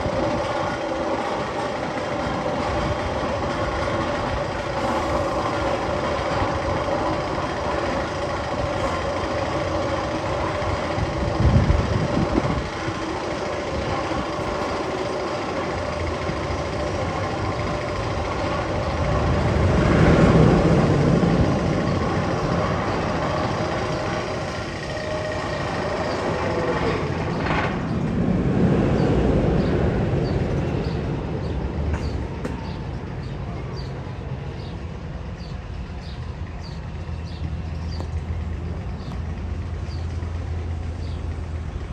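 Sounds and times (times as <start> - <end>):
roller coaster rumble: 0.0 - 41.9.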